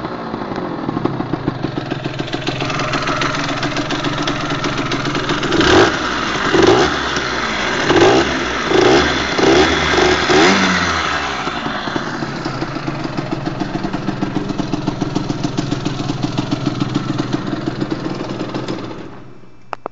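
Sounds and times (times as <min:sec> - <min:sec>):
moped engine revving and idling: 0:00.0 - 0:19.6.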